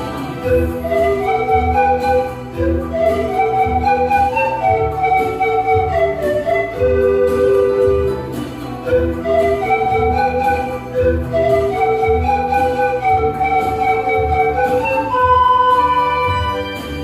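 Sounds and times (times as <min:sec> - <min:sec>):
pan flute ensemble melody: 0:00.0 - 0:17.0
pulsing bass accompaniment: 0:00.0 - 0:17.0.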